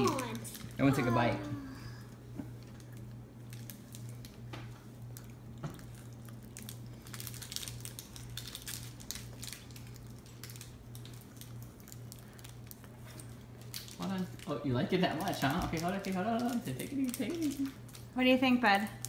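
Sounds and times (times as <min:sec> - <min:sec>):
wrapper crinkling: 0:00.0 - 0:01.2, 0:02.6 - 0:19.0
steady low hum: 0:00.0 - 0:19.0.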